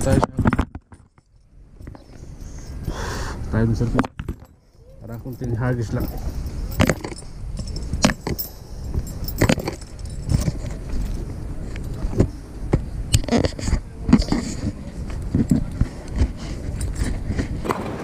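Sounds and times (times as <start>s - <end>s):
fishing gear clinking and knocking: 0.0s - 17.8s.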